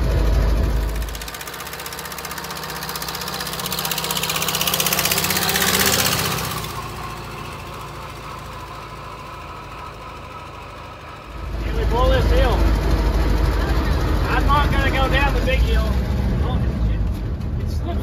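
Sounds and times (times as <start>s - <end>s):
car engine driving past: 0.0s - 17.6s.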